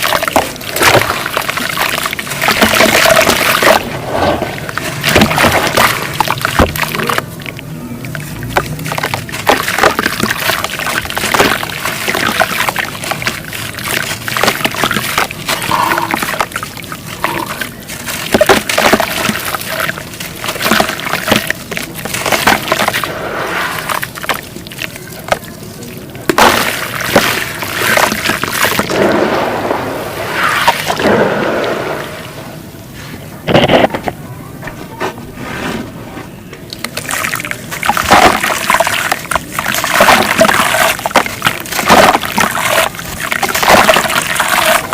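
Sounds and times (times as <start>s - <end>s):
wet paste sloshing and squelching: 0.0s - 32.4s, 36.7s - 44.9s.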